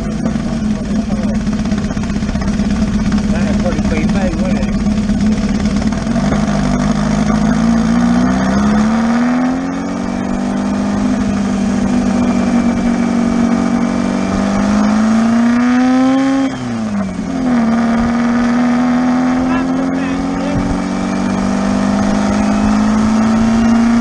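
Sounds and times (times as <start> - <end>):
buggy engine running: 0.0 - 24.0
gear change: 0.0 - 24.0.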